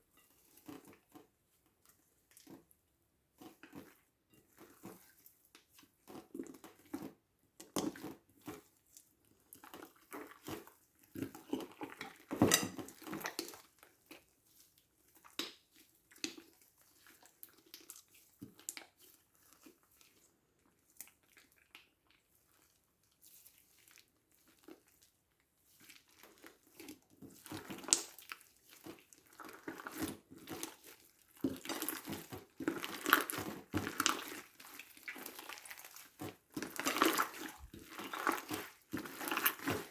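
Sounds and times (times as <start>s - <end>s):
slime squishing: 0.3s - 39.9s.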